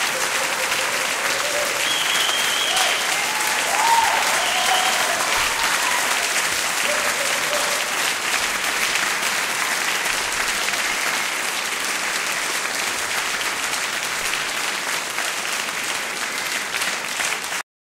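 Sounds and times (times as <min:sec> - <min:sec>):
audience applauding: 0:00.0 - 0:17.6.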